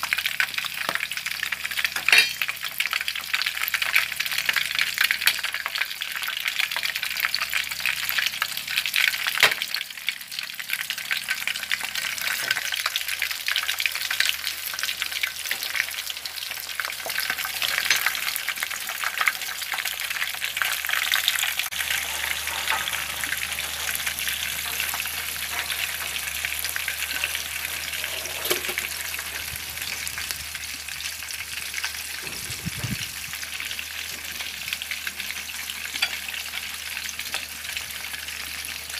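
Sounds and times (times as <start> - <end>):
food deep-frying in oil: 0.0 - 38.9.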